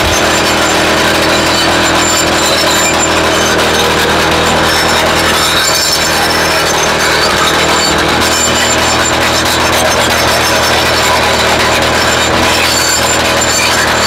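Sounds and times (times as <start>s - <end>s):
rock drill drilling into rock: 0.0s - 14.0s.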